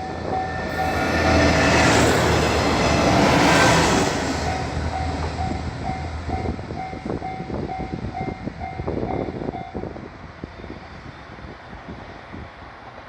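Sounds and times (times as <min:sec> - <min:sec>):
railcar rumble and wheel clacks: 0:00.0 - 0:13.0.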